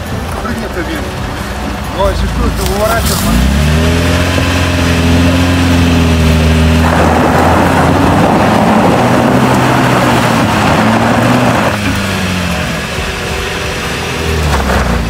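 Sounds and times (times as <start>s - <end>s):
engines running under load: 0.0s - 15.0s
loud rushing noise: 0.0s - 15.0s.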